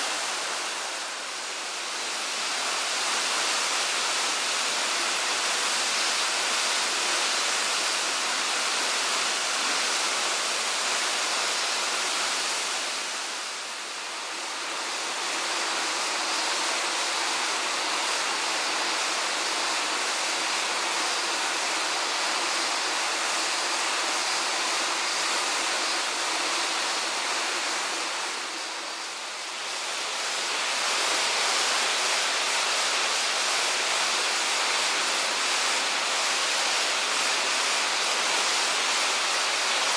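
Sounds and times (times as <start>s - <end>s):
waterfall rushing roar: 0.0s - 39.9s.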